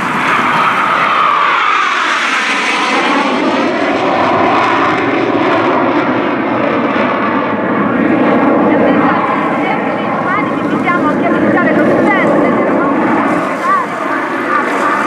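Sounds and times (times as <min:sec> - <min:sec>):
jet passing with falling whine: 0:00.0 - 0:15.0
jet roar: 0:00.0 - 0:15.0.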